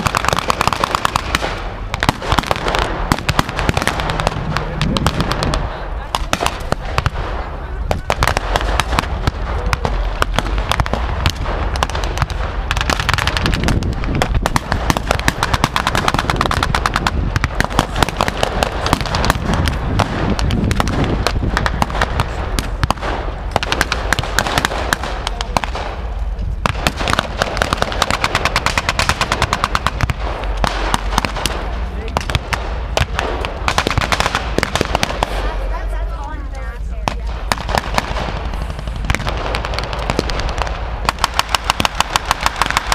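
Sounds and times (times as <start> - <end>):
rapid gunfire: 0.0 - 35.6, 37.0 - 42.9.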